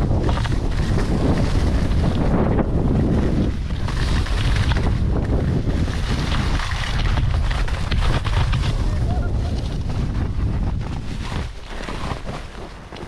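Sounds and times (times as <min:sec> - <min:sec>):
skis scraping over snow: 0:00.0 - 0:13.0
wind rushing over microphone: 0:00.0 - 0:13.0.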